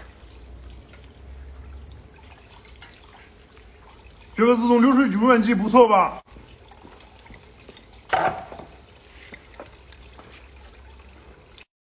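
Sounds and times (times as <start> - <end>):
water trickling along metal trough: 0.0 - 11.7.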